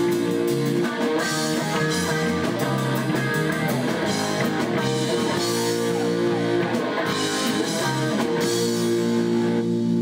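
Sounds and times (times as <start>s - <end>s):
drum kit: 0.0s - 10.0s
electric guitar: 0.0s - 10.0s.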